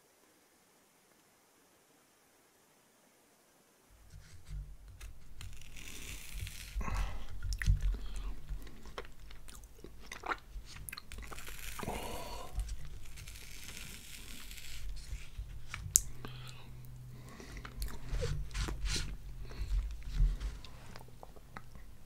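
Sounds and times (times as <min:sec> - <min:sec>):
crust crunching: 0:04.0 - 0:22.0
biting and chewing pizza: 0:04.1 - 0:22.0.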